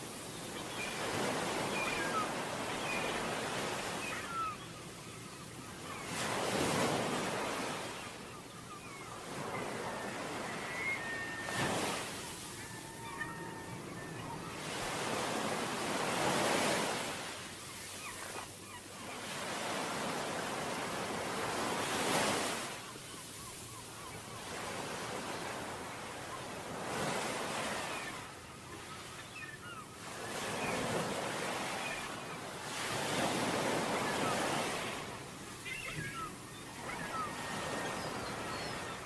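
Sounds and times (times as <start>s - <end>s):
sea waves breaking on beach: 5.8s - 28.7s, 29.3s - 39.0s.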